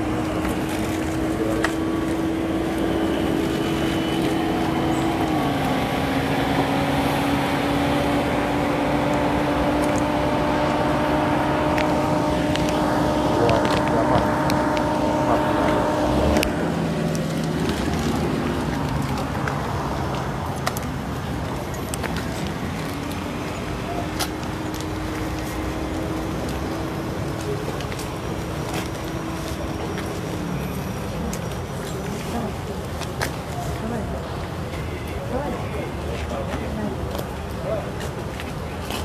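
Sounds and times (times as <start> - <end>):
car running hum: 0.0 - 32.9
crowd noise outdoors: 0.0 - 39.0.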